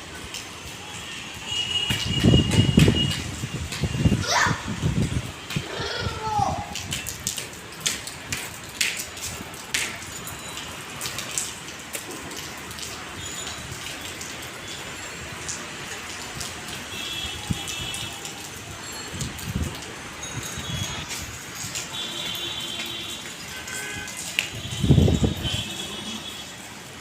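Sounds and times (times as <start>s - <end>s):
raindrops tapping a surface: 0.0s - 4.2s, 4.8s - 27.0s
rain falling steadily: 0.0s - 27.0s.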